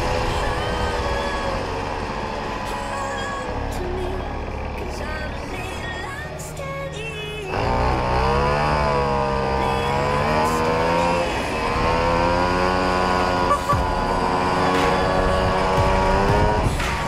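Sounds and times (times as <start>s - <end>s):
moped engine running: 0.0s - 17.0s.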